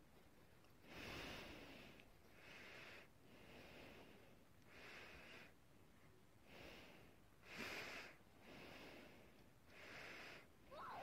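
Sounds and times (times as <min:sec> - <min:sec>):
soft hissy breathing: 0:00.2 - 0:11.0.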